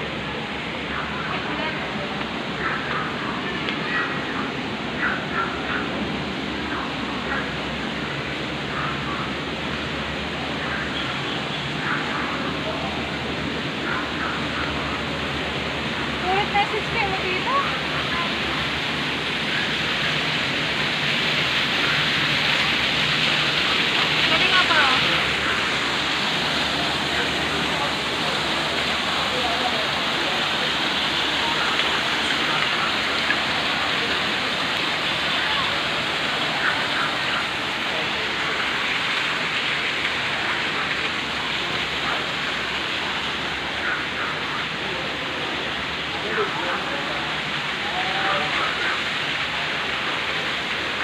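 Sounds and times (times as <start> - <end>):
waterfall pouring into pond: 0.0 - 51.0.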